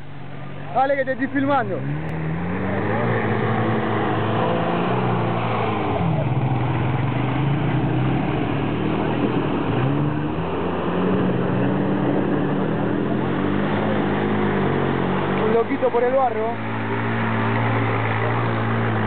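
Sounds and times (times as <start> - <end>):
quad bike engine revving: 0.8 - 19.0.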